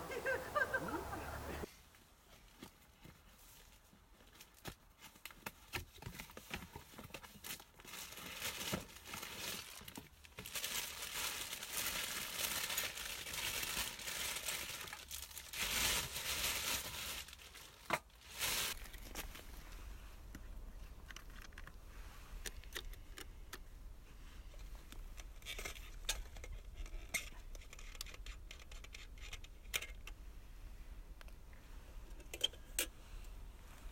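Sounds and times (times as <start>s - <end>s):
crinkling and rustling: 0.0s - 30.2s.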